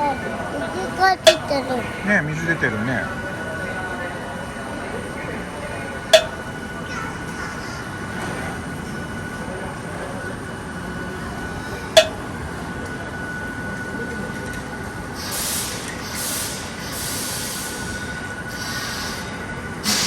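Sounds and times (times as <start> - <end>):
train running hum: 0.0 - 20.0.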